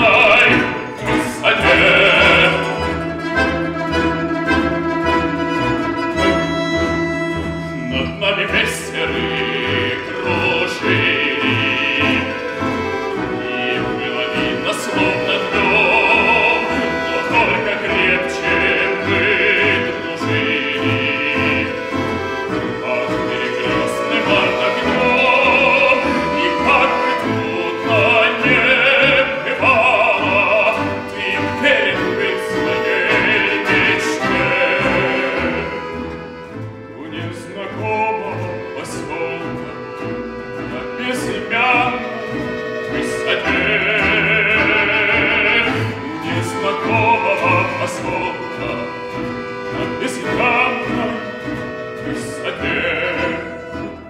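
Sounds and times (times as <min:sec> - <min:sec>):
bass balalaika: 0:00.0 - 0:54.0
button accordion: 0:00.0 - 0:54.0
man singing classical style: 0:00.0 - 0:54.0
plucked string instruments: 0:00.0 - 0:54.0.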